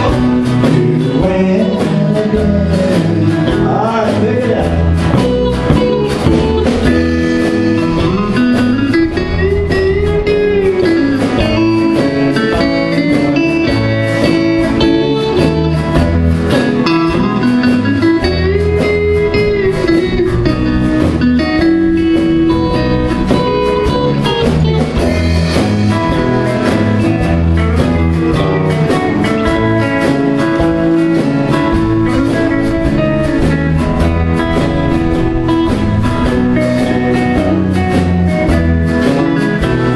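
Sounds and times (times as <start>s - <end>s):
acoustic guitar rhythm: 0.0s - 39.9s
bass guitar: 0.0s - 39.9s
electric guitar lead: 0.0s - 39.9s.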